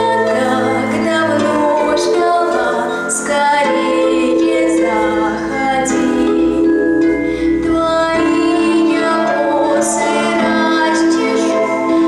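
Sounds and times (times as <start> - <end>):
instrumental accompaniment: 0.0 - 12.0
woman singing: 0.0 - 12.0.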